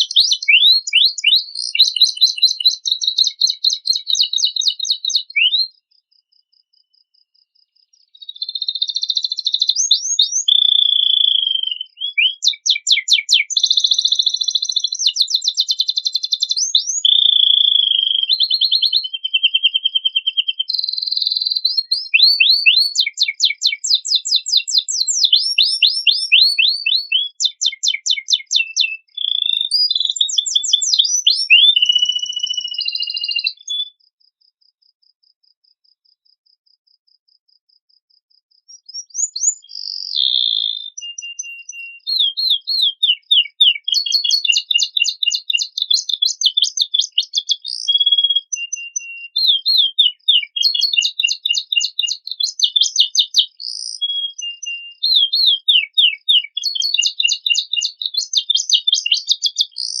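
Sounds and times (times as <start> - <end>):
canary singing trills: 0.0 - 34.1, 38.6 - 60.0.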